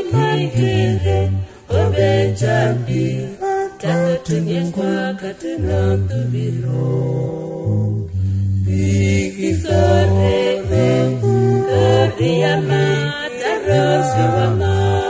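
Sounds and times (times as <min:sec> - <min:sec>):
vocal group singing in harmony: 0:00.0 - 0:15.0.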